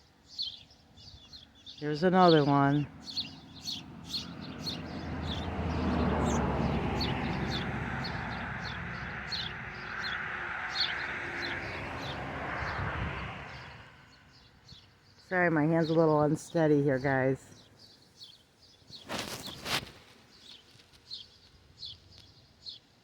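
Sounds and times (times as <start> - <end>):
small birds chirping: 0.1 - 23.0.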